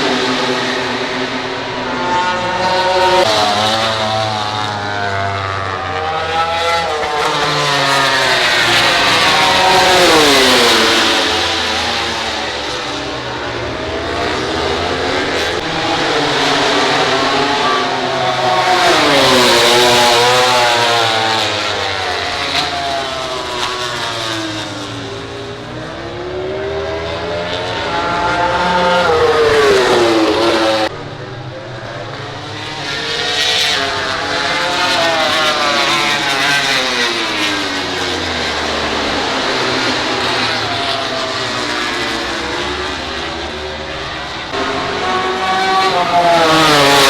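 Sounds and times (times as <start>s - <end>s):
racing motorcycles passing: 0.0s - 47.0s.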